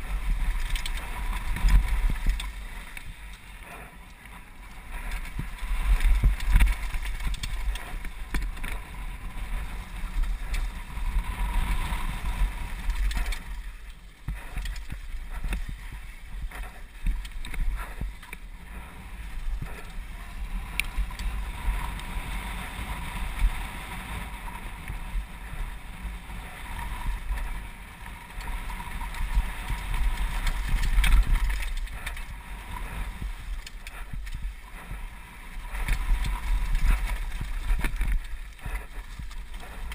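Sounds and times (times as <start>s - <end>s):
bike rattling and clicking: 0.0s - 39.9s
tyre noise on dirt: 0.0s - 39.9s
wind buffeting microphone: 0.0s - 39.9s.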